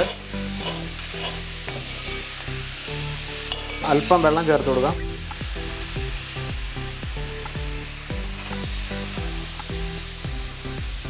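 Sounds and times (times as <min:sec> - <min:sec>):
background music with beat: 0:00.0 - 0:11.0
chicken sizzling in oil: 0:00.0 - 0:11.0.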